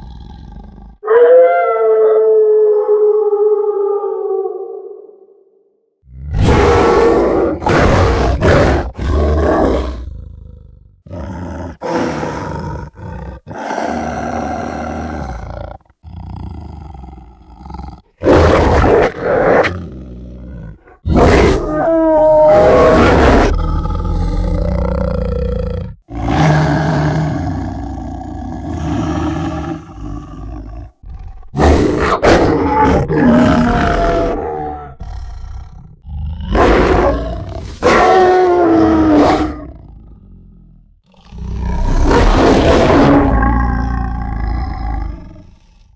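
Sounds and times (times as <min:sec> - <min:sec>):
monster roaring: 0:06.2 - 0:40.2, 0:41.1 - 0:45.9.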